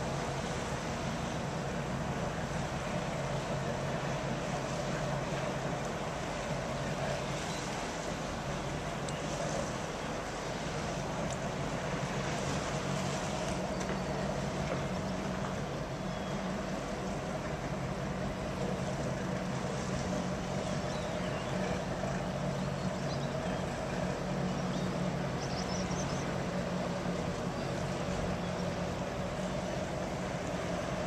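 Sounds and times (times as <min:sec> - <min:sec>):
moving water: 0:00.0 - 0:31.0
ship machinery hum: 0:00.0 - 0:31.0
wind: 0:00.0 - 0:31.0.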